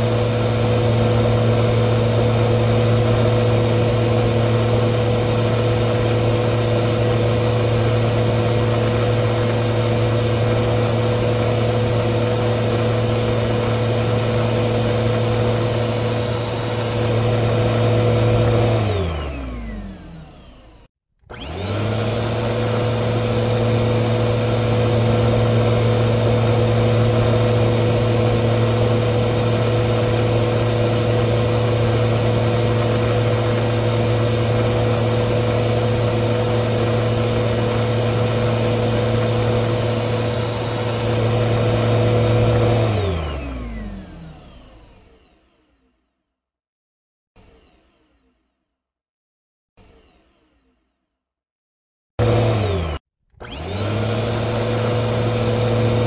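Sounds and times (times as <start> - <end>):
vacuum cleaner running: 0.0 - 45.2, 52.2 - 56.0.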